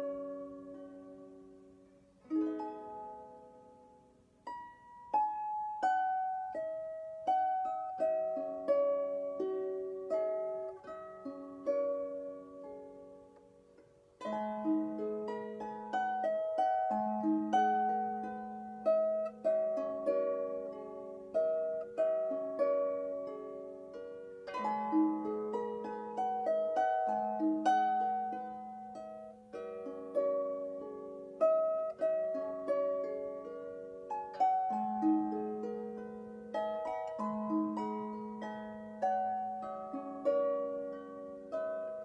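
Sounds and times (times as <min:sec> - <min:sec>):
harp plucked melody: 0:00.0 - 0:42.0.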